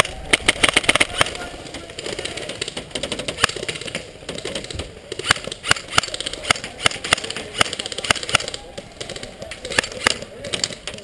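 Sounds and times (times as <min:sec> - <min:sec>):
airsoft gunshots: 0:00.0 - 0:01.5, 0:02.2 - 0:10.8.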